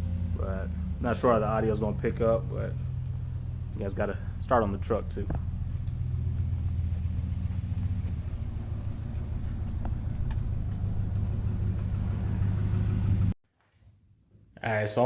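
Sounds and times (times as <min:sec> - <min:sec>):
truck engine idling: 0:00.0 - 0:13.4.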